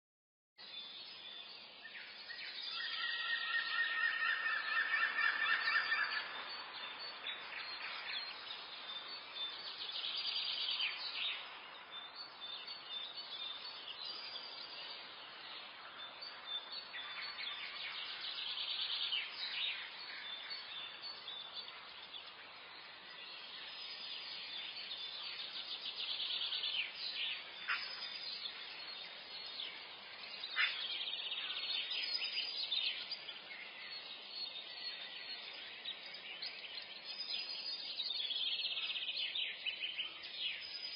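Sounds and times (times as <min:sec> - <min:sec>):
songbirds chirping and trilling: 0:00.6 - 0:40.9
steady background hiss: 0:00.7 - 0:40.9.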